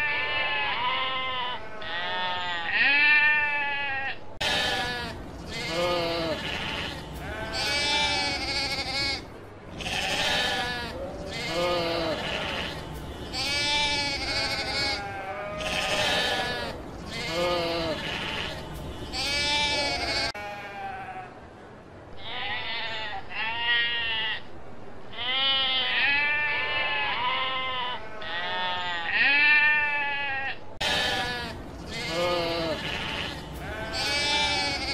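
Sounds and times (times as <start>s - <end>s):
sheep bleating: 0.0s - 21.3s, 25.2s - 34.9s.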